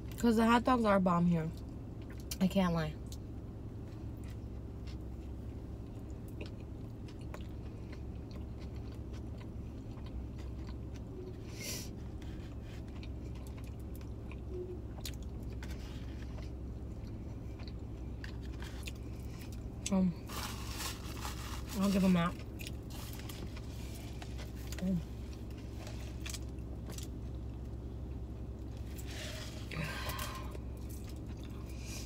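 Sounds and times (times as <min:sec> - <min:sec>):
steady low hum: 0:00.0 - 0:32.0
person chewing food: 0:03.8 - 0:21.7, 0:22.4 - 0:32.0.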